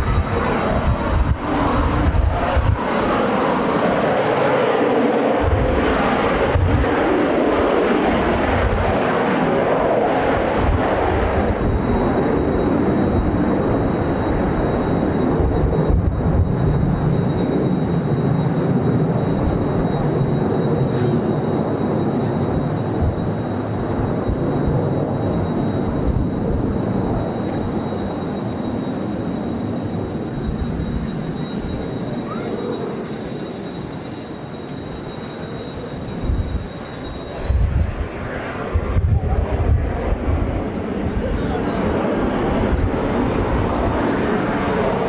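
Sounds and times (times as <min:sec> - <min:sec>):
wind buffeting microphone: 0:00.0 - 0:04.2, 0:05.2 - 0:28.4, 0:35.0 - 0:44.9
jet engines roaring: 0:00.0 - 0:45.0.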